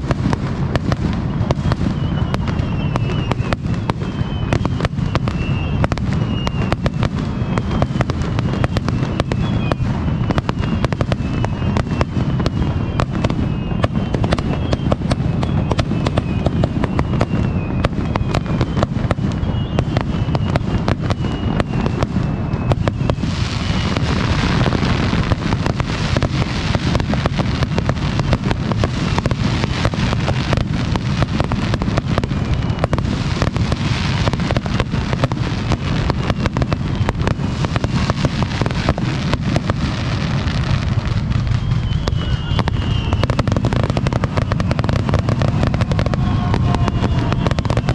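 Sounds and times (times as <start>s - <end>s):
fireworks bangs: 0.0s - 47.9s
fireworks crackling hiss: 0.0s - 47.9s
fireworks falling whistles: 0.0s - 47.9s.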